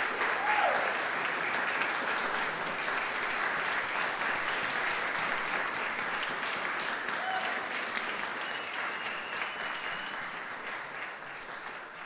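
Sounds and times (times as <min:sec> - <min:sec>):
audience applause: 0:00.0 - 0:12.0.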